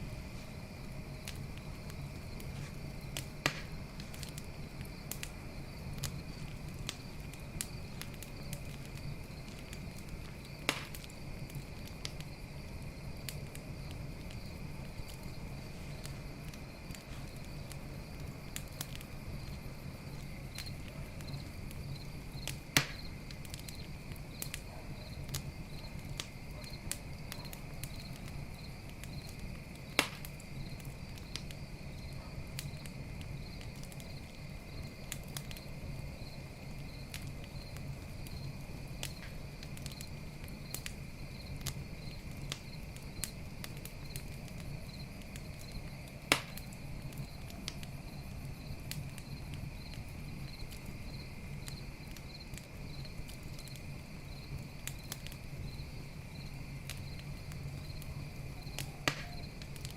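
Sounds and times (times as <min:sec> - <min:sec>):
campfire crackling and popping: 0:00.0 - 0:59.9
crickets chirping: 0:00.0 - 0:59.9.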